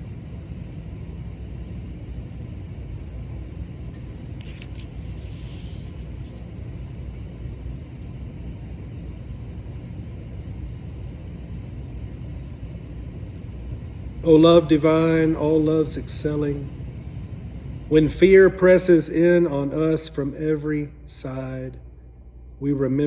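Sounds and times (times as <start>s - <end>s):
low room rumble: 0.0s - 23.0s.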